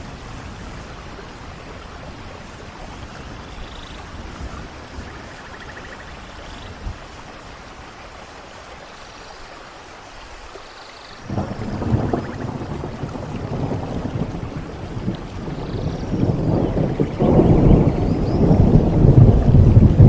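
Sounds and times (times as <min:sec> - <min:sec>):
low rumble of thunder: 0:00.0 - 0:07.7, 0:11.2 - 0:20.0
rain hiss: 0:00.0 - 0:20.0.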